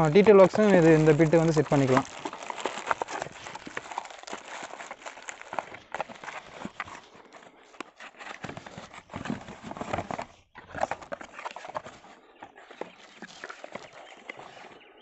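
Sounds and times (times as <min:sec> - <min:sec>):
cardboard boxes being handled: 0:00.0 - 0:15.0.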